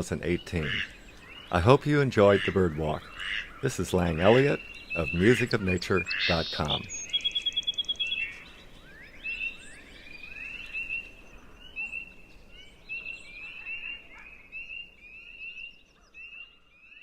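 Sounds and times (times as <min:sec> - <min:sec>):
spring peepers chorus: 0:00.0 - 0:17.0.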